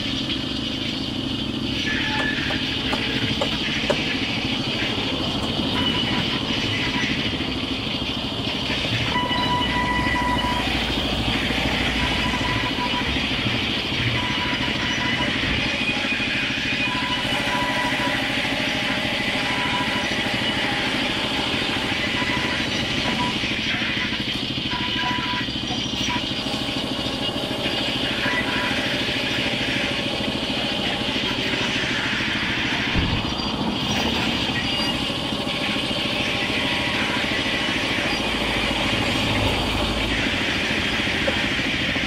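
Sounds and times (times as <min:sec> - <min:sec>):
band saw cutting timber: 0:00.0 - 0:42.0.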